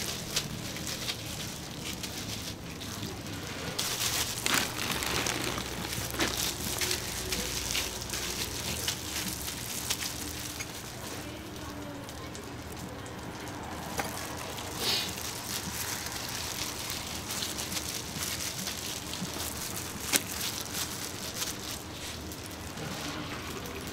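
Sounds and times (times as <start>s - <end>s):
plastic bag and glove crinkling: 0.0s - 23.9s.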